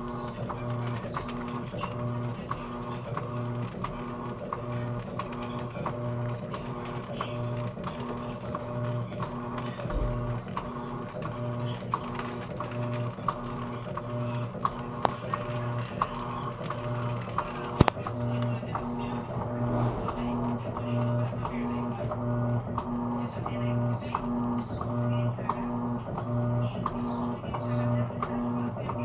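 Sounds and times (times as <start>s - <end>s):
washing machine motor pulsing: 0.0s - 29.0s.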